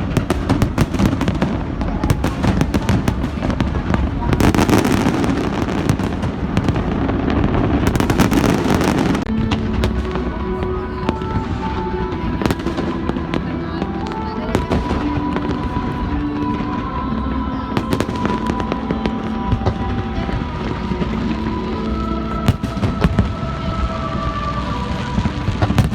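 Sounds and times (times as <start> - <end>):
fireworks crackling and bursting: 0.0 - 25.9
music with long held notes: 0.0 - 25.9.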